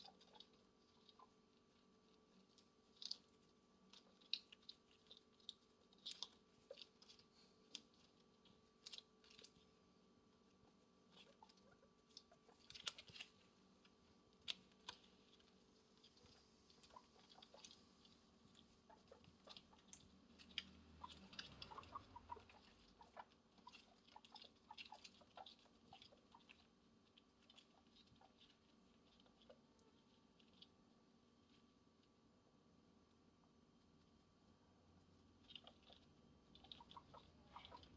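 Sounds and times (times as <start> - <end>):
guinea pig chewing: 0.0 - 37.9.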